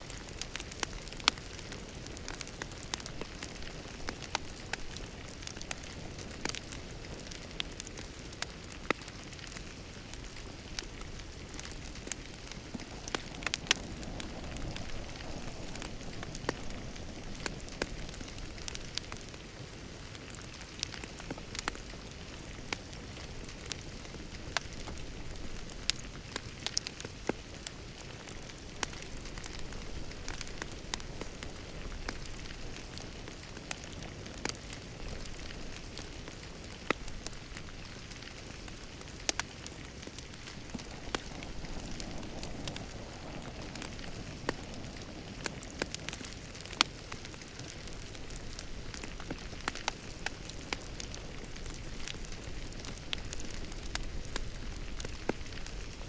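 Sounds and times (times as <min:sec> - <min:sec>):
fire popping and snapping: 0:00.0 - 0:56.0
wood fire crackling: 0:00.0 - 0:56.0.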